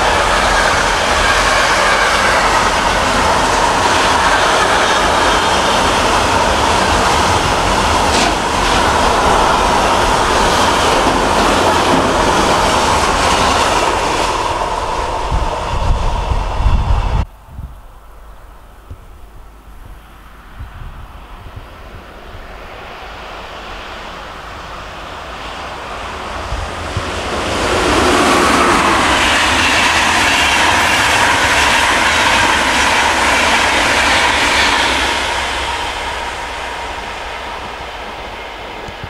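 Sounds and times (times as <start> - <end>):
train wheels rushing on rails: 0.0 - 17.3, 18.5 - 39.0.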